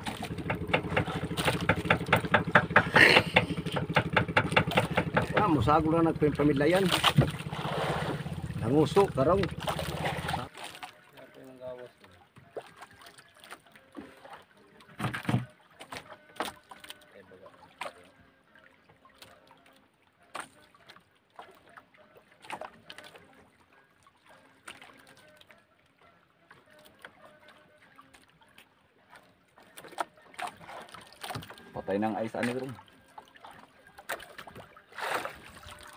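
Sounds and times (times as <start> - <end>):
water lapping against boat hull: 0.0 - 35.9.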